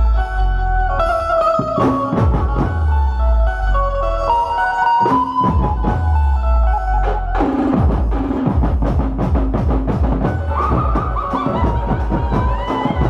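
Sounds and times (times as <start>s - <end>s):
melody over bass and drums: 0.0s - 13.0s.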